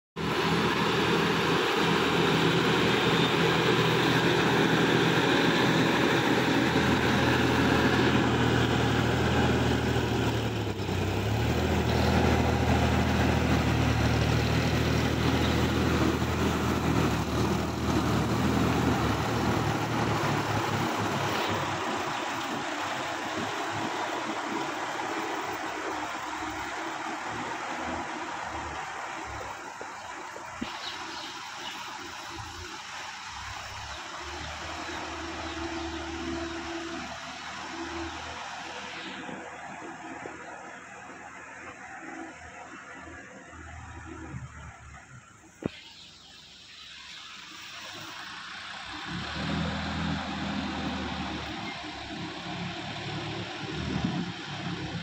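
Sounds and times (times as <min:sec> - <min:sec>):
tractor diesel engine working: 0:00.2 - 0:55.0.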